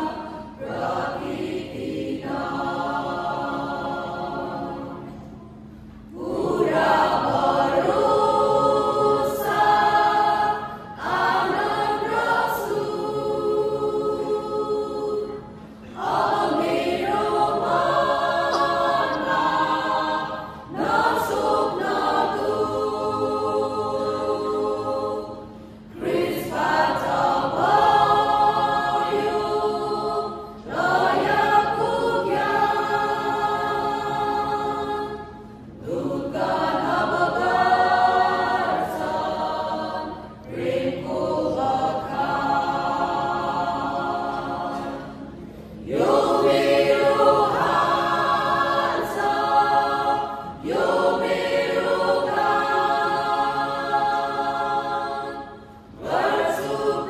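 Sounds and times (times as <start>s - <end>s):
mixed choir singing gospel: 0.0s - 57.0s.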